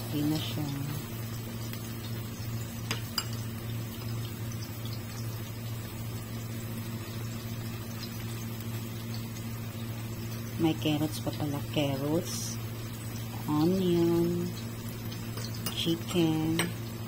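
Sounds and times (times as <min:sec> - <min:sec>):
patties sizzling in a pan: 0:00.0 - 0:17.0.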